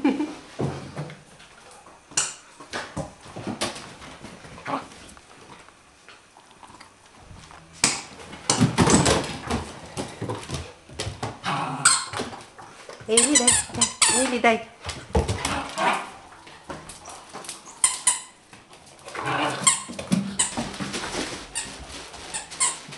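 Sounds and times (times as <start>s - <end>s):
dogs scuffling: 0.6s - 22.9s.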